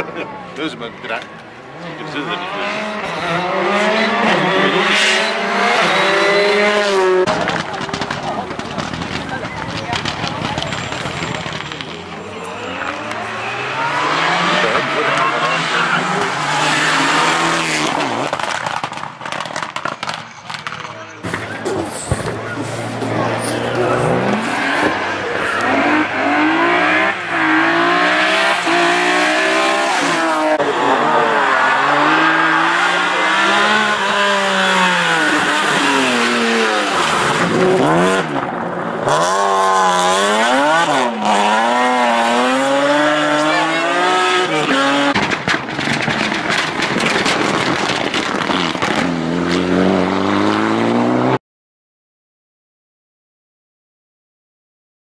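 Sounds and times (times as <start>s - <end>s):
rally car engines revving: 0.0s - 51.4s.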